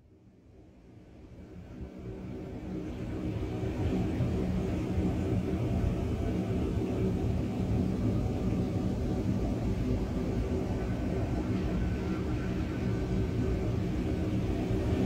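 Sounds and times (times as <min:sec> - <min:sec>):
low rumbling ambient drone: 0:01.6 - 0:15.0.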